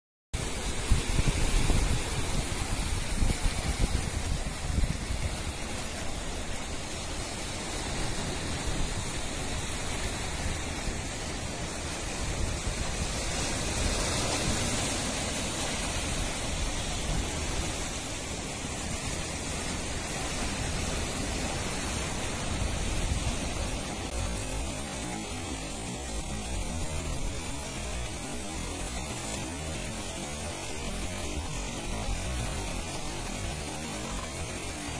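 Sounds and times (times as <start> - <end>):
sea surf breaking: 0.4 - 34.9
wind rumbling on microphone: 0.4 - 34.9.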